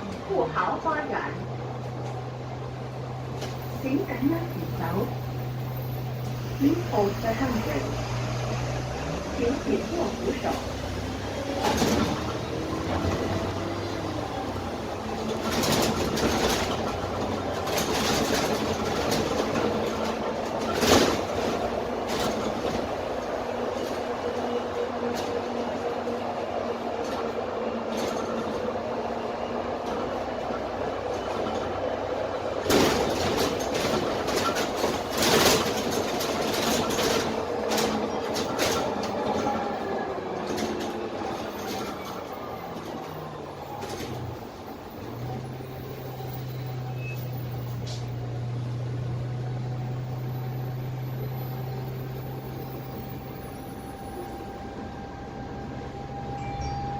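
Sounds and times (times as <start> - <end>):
bus body rattling: 0.0 - 56.9
bus diesel engine running: 0.0 - 56.9.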